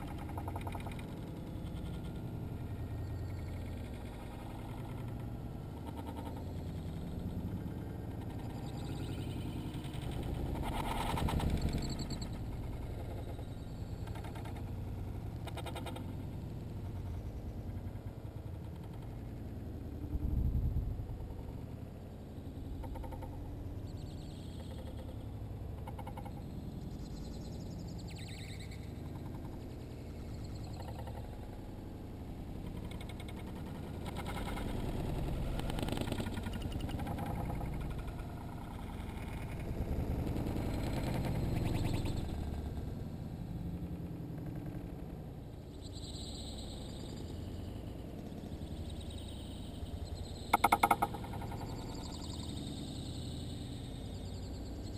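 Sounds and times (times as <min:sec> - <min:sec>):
slowed-down low murky rumble: 0:00.0 - 0:54.9.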